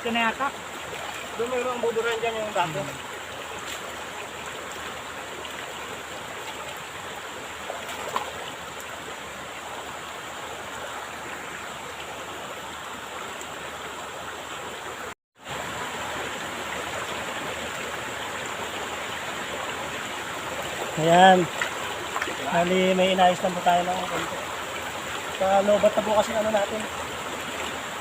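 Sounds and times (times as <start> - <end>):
stream flowing: 0.0 - 28.0.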